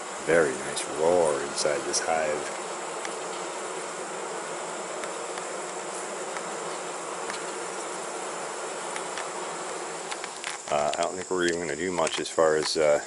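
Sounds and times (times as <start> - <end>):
roar of many bees: 0.0 - 13.0.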